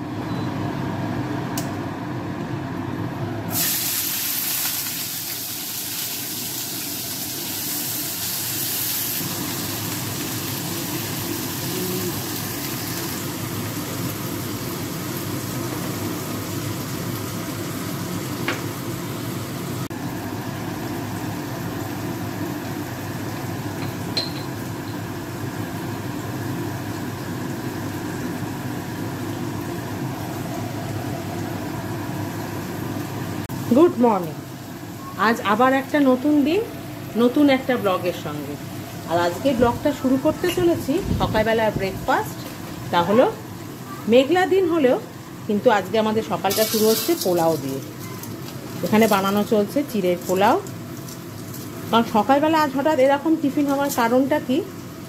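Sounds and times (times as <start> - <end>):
vegetables sizzling in oil: 3.5 - 55.0.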